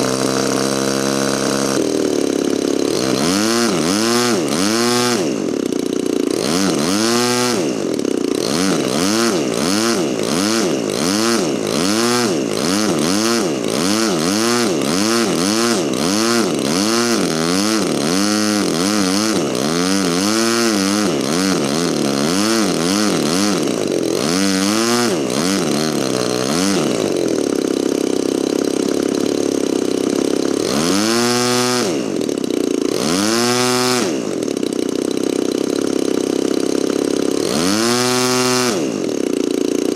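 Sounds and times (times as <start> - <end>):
model aircraft engine revving: 0.0 - 39.9.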